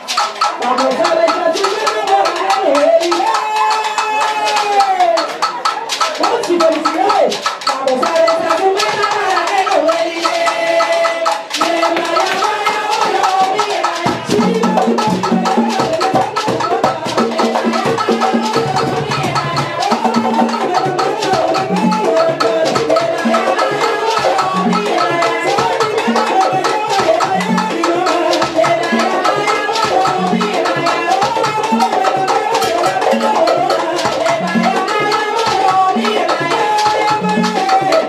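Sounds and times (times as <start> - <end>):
conga drums and hand percussion: 0.0 - 38.0
women singing: 0.0 - 38.0.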